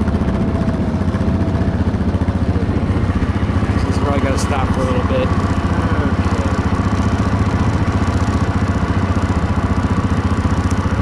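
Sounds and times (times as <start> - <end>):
engine idling with rapid putter: 0.0 - 11.0.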